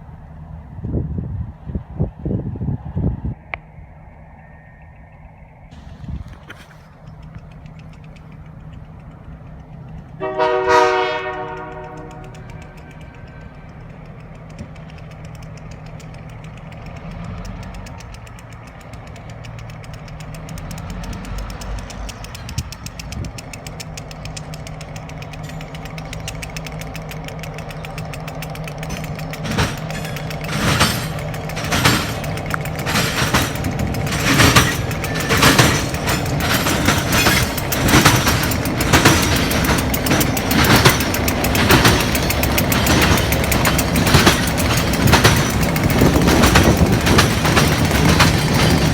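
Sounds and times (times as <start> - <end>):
diesel locomotive engine humming: 0.0 - 48.9.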